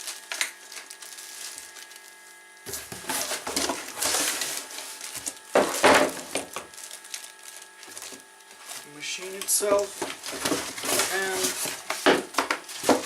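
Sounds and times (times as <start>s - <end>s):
cardboard packaging rustling: 0.0s - 13.0s.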